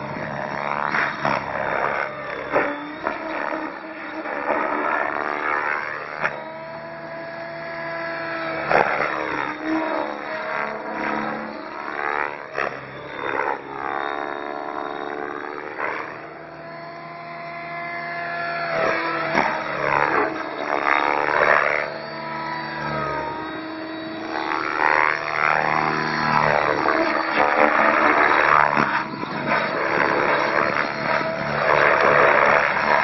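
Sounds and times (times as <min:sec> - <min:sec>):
model helicopter rotor whine: 0:00.0 - 0:33.0.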